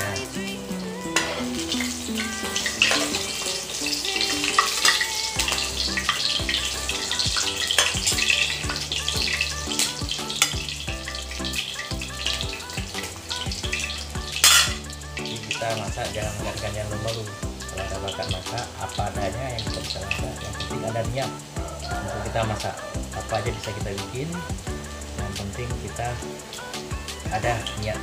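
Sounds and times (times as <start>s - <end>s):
spatula turning eggs: 0.0s - 25.2s
background music with beat: 0.0s - 28.0s
eggs sizzling in wok: 0.0s - 28.0s.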